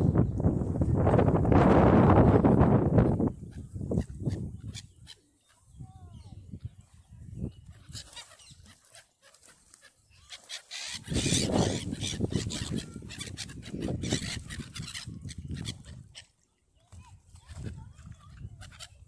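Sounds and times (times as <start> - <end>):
waterbirds calling: 2.2 - 19.0.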